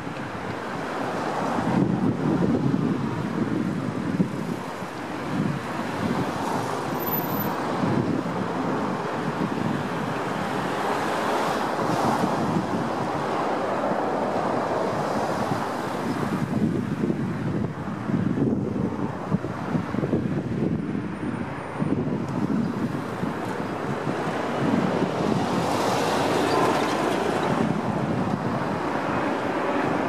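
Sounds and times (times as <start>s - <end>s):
cars passing: 0.0s - 30.0s
wind buffeting microphone: 0.0s - 30.0s.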